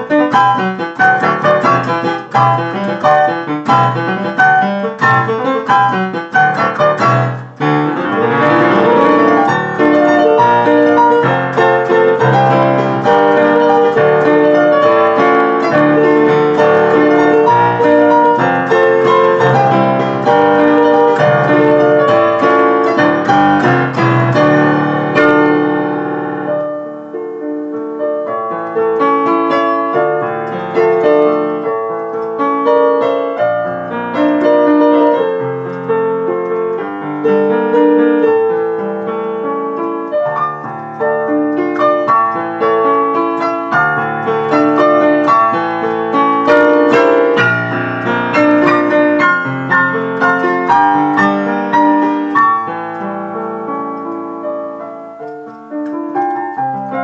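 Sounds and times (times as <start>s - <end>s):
digital piano chords: 0.0s - 57.0s.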